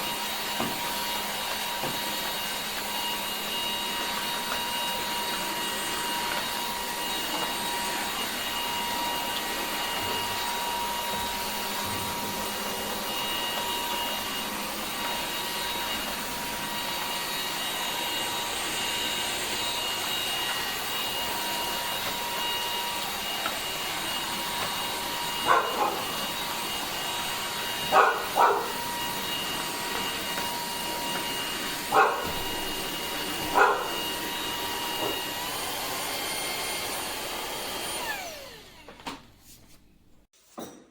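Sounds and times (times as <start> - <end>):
vacuum cleaner running: 0.0 - 39.5.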